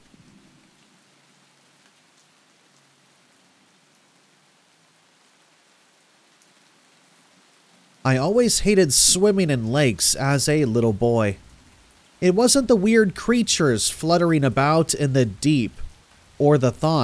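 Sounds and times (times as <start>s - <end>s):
rainfall hiss: 0.0s - 17.0s.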